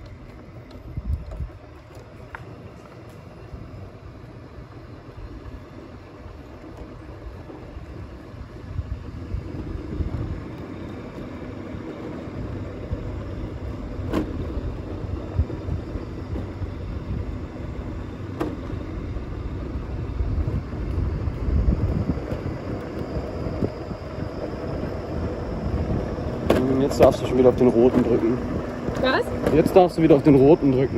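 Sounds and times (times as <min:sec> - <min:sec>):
vehicle rumble: 0:00.0 - 0:30.9.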